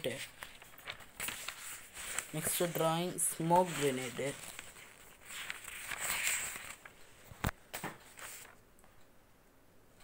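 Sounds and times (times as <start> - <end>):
paper rustling: 0.0 - 8.6.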